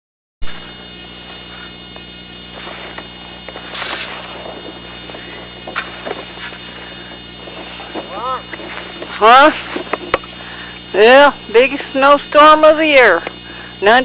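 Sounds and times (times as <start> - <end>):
electrical hum and buzz: 0.4 - 14.0.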